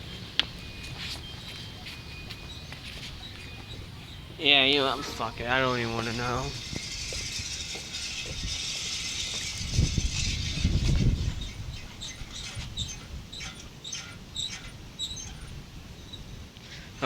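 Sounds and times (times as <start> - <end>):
flock of birds chirping: 0.0 - 17.0
wind buffeting microphone: 0.0 - 17.0.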